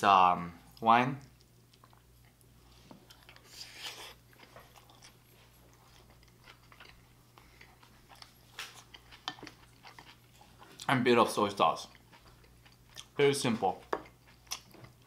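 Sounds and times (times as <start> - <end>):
person chewing food: 0.7 - 10.9, 11.6 - 15.0.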